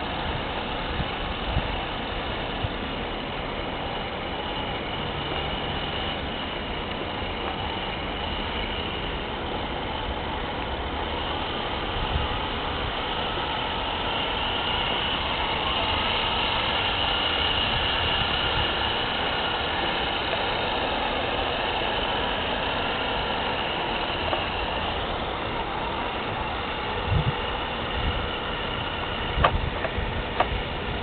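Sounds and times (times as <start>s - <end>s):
model tank engine drone with whine: 0.0s - 31.0s.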